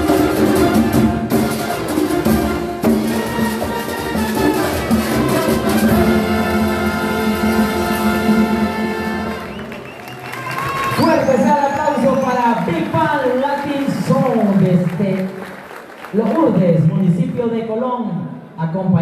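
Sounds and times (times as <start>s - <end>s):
drumming: 0.0s - 16.4s
big band playing latin music: 0.0s - 17.8s.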